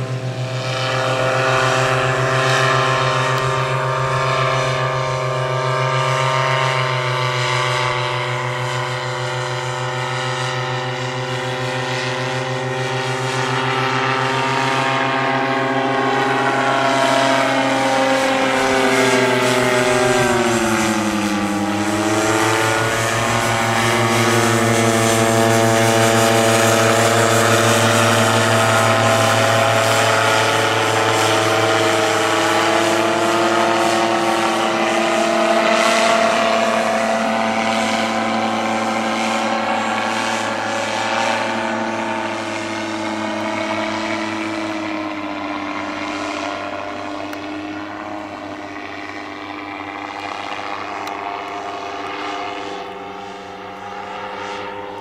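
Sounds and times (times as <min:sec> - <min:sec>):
paratrike engine and propeller: 0:00.0 - 0:55.0.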